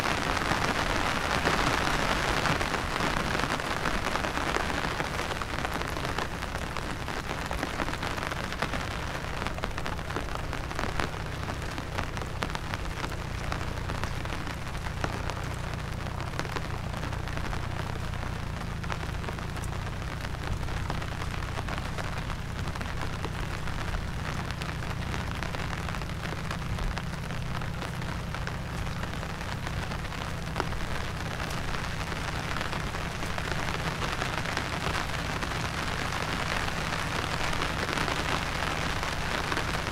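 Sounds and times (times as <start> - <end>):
low rumble: 0.0 - 39.9
rain hissing: 0.0 - 39.9
raindrops pattering: 0.0 - 39.9.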